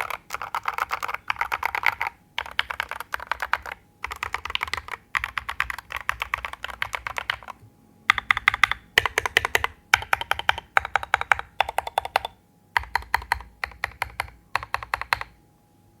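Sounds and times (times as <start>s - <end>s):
typing on mechanical keyboard: 0.0s - 15.4s.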